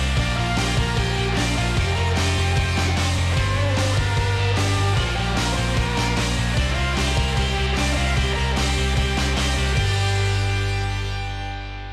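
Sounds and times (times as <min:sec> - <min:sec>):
rock music with bass guitar: 0:00.0 - 0:11.9.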